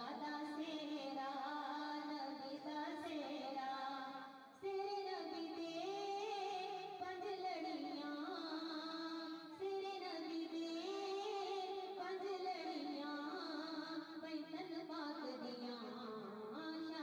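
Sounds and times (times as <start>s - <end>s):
song with singing voice: 0.0s - 17.0s.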